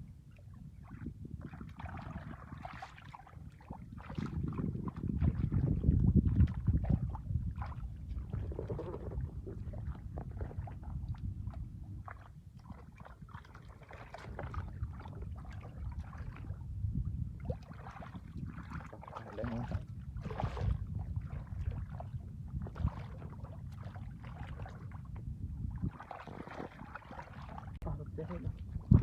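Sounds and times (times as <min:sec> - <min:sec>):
water splashing and sloshing: 0:00.1 - 0:29.0.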